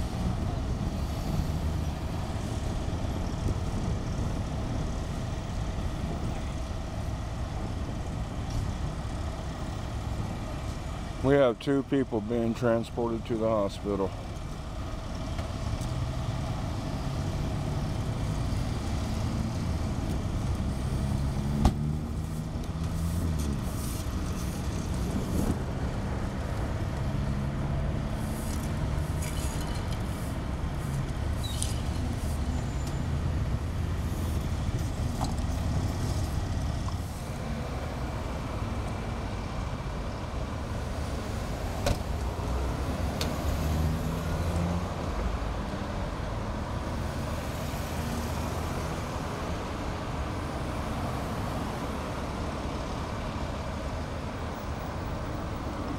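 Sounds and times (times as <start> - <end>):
passing road traffic: 0.0 - 55.9.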